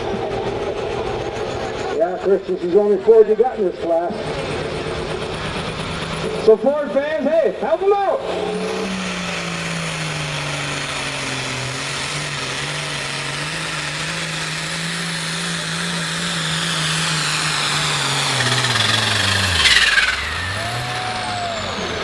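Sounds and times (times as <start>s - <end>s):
tractor engine droning under load: 0.0s - 22.0s.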